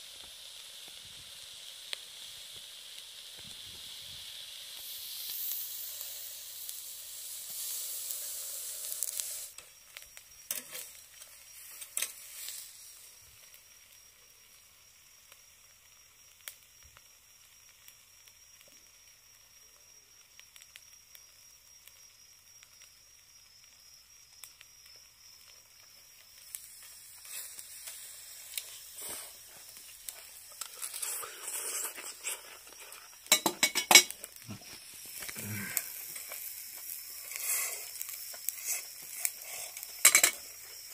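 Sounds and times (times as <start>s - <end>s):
meat sizzling on grill: 0.0s - 40.9s
sharp crackles and clicks: 0.0s - 40.9s.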